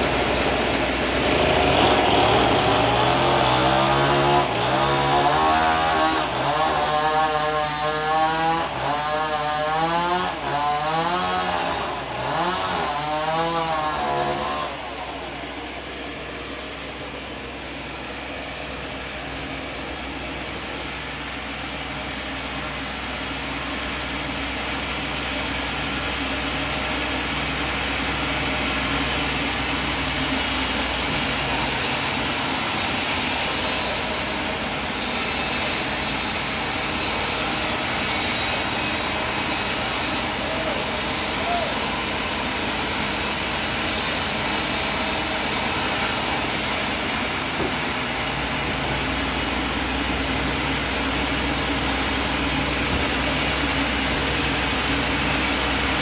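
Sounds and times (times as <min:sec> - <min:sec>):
sawmill saw cutting timber: 0:00.0 - 0:56.0.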